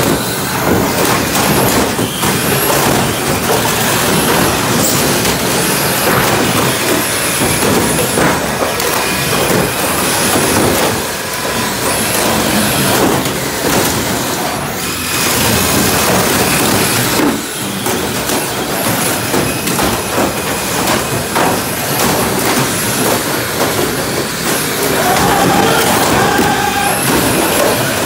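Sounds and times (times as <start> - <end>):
toy car bodies colliding: 0.0 - 28.0
wheels scrubbing on wood: 0.0 - 28.0.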